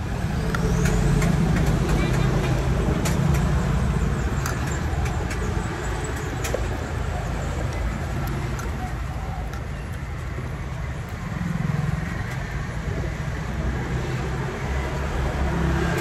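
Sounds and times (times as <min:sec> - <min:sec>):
road traffic rumble: 0:00.0 - 0:16.0
vehicle engine: 0:00.0 - 0:16.0.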